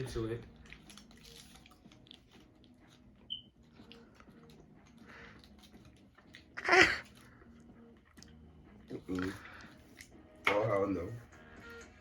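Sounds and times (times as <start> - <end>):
faint chewing: 0.4 - 10.4.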